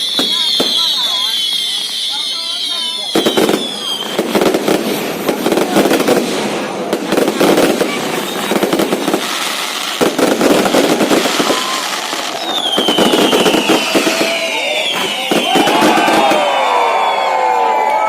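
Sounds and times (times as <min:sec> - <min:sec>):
fireworks crackling and popping: 0:00.0 - 0:17.6.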